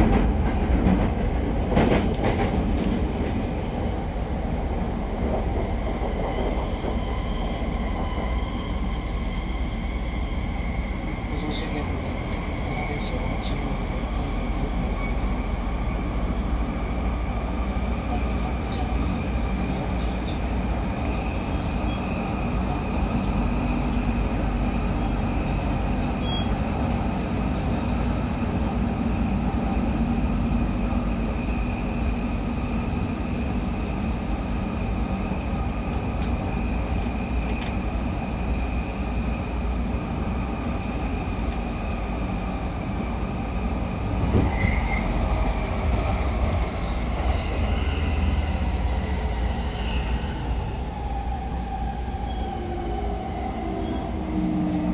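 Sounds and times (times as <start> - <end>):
train rolling and rumbling: 0.0 - 54.9.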